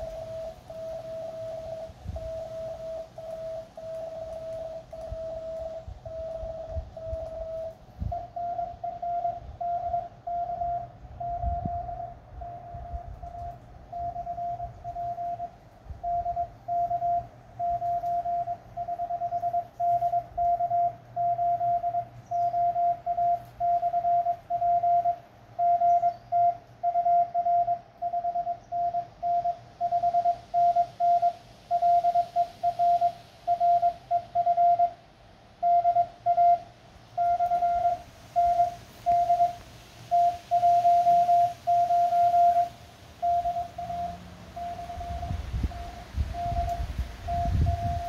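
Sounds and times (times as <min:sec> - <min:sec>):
morse code beeps: 0:00.0 - 0:35.0, 0:35.6 - 0:48.0.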